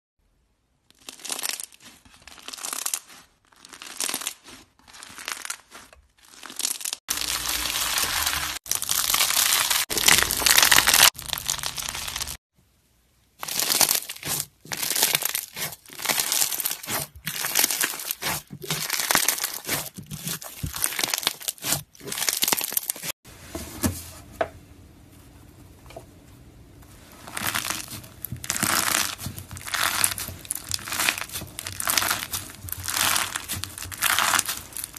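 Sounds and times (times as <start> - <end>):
crunchy slime crackling: 0.9 - 12.4, 13.4 - 23.2, 27.0 - 34.9.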